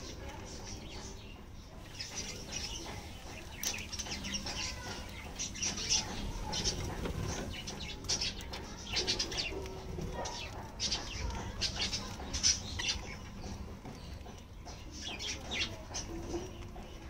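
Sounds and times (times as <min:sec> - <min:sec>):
budgerigars chirping: 0:00.7 - 0:16.6.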